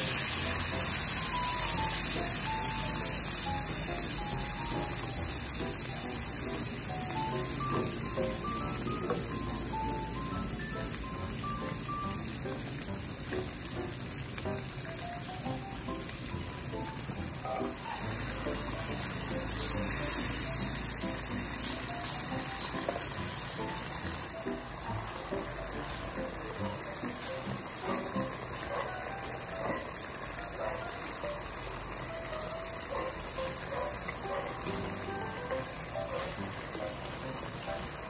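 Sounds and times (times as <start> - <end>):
food sizzling in a frying pan: 0.0 - 38.0
light background music: 0.0 - 38.0.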